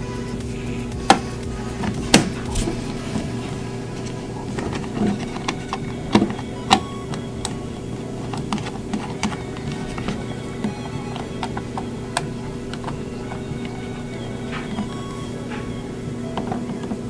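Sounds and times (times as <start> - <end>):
quiet background music: 0.0 - 17.0.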